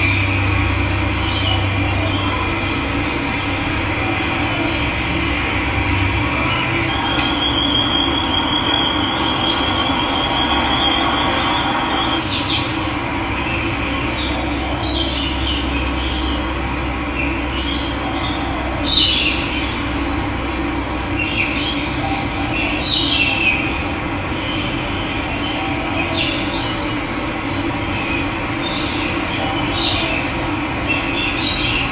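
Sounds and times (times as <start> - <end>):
birds calling: 0.0 - 20.2, 21.0 - 31.9.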